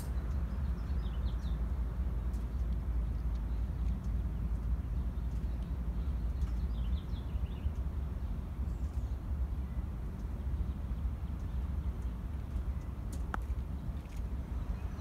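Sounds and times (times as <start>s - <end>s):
bird chirping: 0.0s - 13.0s, 13.6s - 15.0s.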